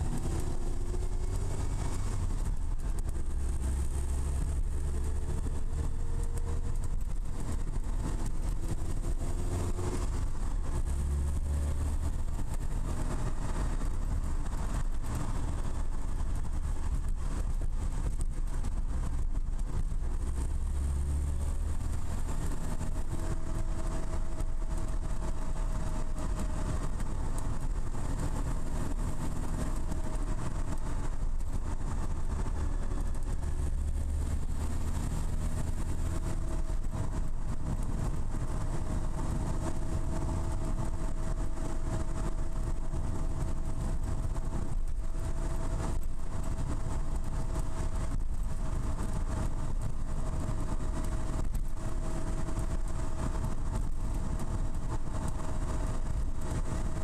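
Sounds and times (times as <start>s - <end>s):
car engine running: 0.0s - 57.0s
wind noise: 0.0s - 57.0s.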